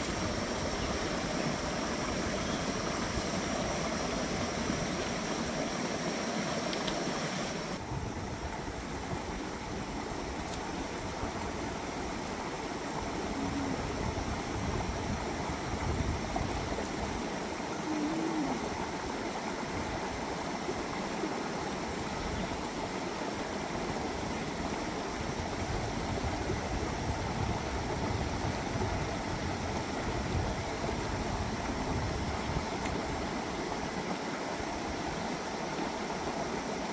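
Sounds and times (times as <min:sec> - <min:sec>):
stream flowing over stones: 0:00.0 - 0:36.9.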